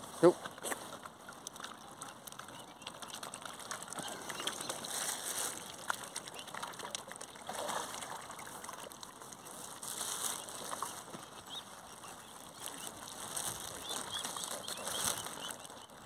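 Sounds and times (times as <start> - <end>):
lake water splashing and trickling: 0.0 - 16.0
small clicks and splashes: 0.4 - 16.0.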